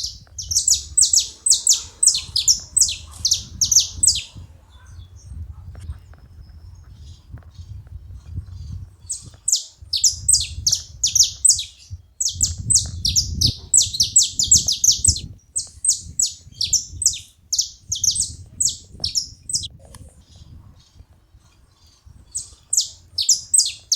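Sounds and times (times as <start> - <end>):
finches calling: 0.0 - 5.4, 8.3 - 19.7, 20.3 - 23.9.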